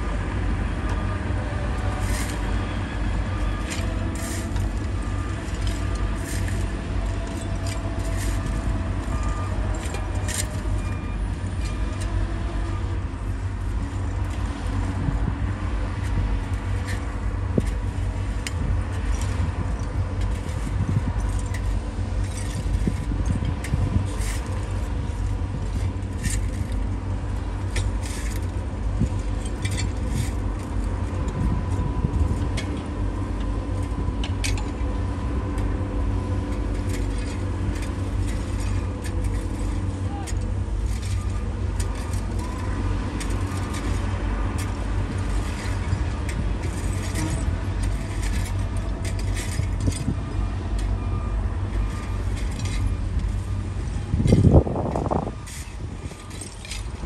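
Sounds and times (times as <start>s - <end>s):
diesel engine deep rumble: 0.0s - 57.0s
metallic clinks and squeaks: 2.0s - 14.7s, 19.0s - 32.8s, 33.6s - 57.0s.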